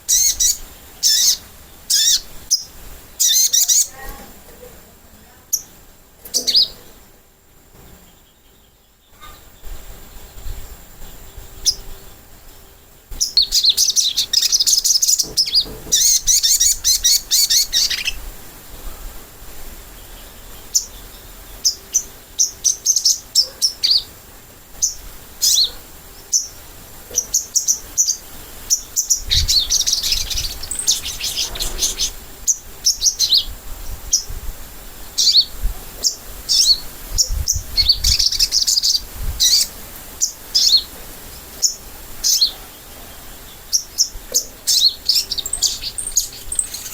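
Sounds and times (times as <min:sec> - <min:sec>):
bird twittering chirps: 0:00.0 - 0:04.0, 0:08.0 - 0:18.2, 0:19.9 - 0:24.2, 0:24.8 - 0:34.4, 0:35.0 - 0:46.9.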